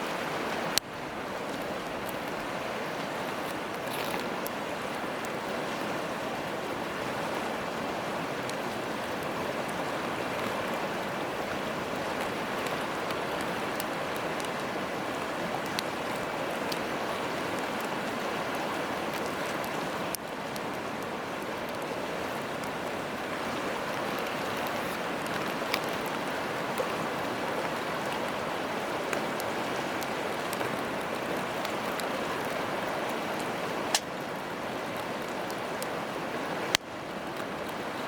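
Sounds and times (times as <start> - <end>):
faint campfire crackles: 0.0 - 38.0
river flowing: 0.0 - 38.0.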